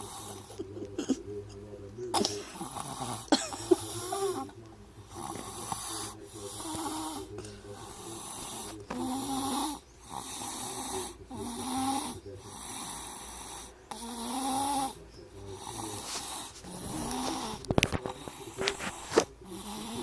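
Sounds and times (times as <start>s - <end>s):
baby snoring: 0.0s - 20.0s.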